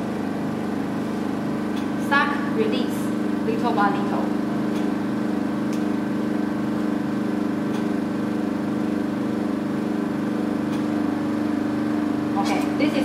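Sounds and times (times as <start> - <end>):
vacuum pump buzzing hum: 0.0 - 13.0.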